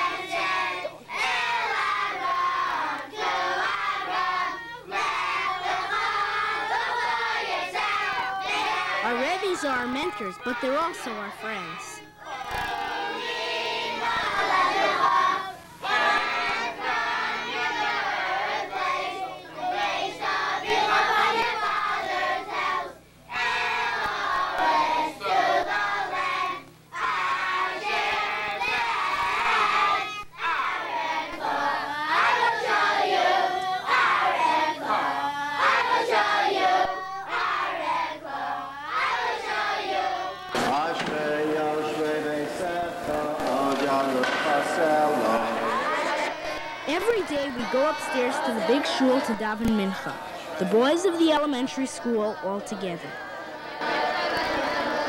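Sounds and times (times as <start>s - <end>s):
boys chanting in unison: 0.0s - 55.0s.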